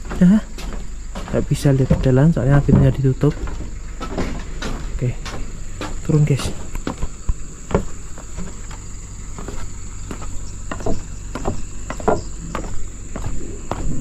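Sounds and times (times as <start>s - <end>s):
footsteps on wooden stairs: 0.0s - 14.0s.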